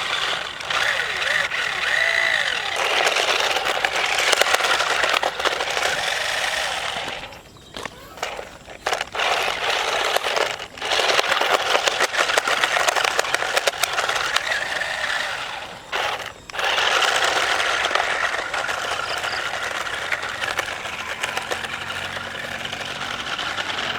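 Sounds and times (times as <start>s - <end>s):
plastic body rattling: 0.0s - 23.9s
toy car motors whirring: 0.0s - 23.9s.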